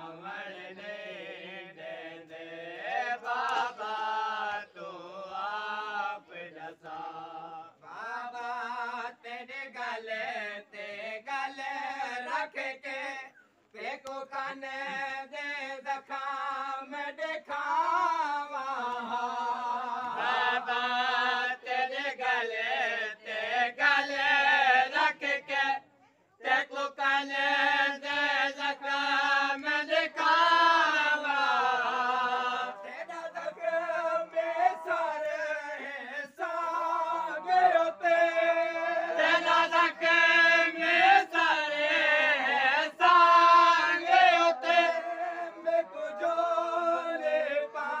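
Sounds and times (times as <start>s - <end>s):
man chanting a lament: 0.0s - 25.8s, 26.5s - 48.0s.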